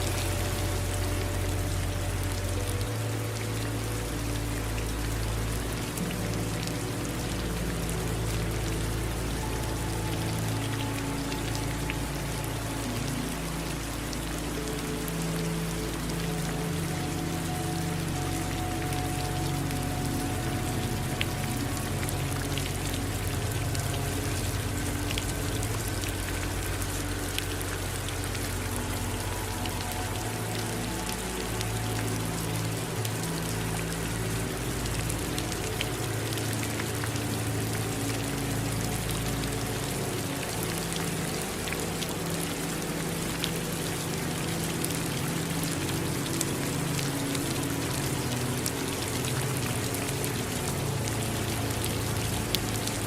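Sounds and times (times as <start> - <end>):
low steady tones: 0.0 - 53.0
rain drops ticking on surface: 0.0 - 53.0.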